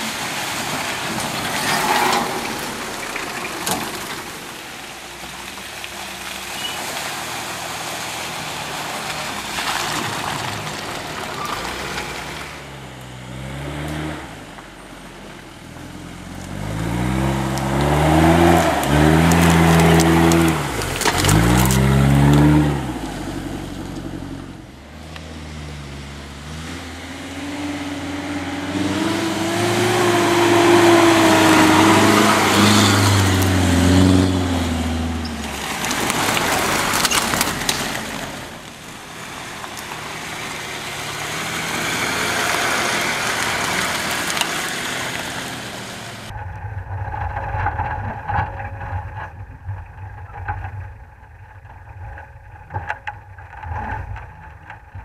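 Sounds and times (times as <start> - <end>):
suv engines revving: 0.0 - 46.4
tyre and mud noise: 0.0 - 55.0.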